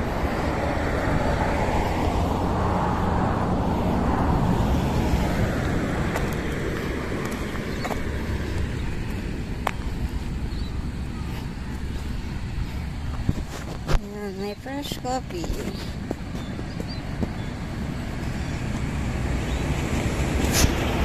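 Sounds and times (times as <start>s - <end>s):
passing vehicle: 0.0s - 21.0s
steady low traffic rumble: 0.0s - 21.0s.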